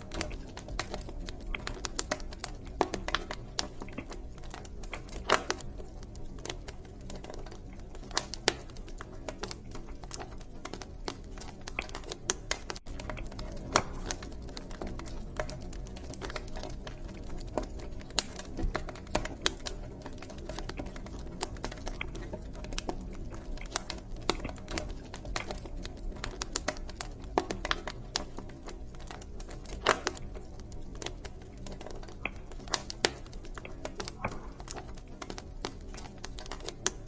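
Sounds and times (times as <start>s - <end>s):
low rumble of flames: 0.0s - 37.0s
wood fire crackling and popping: 0.0s - 37.0s.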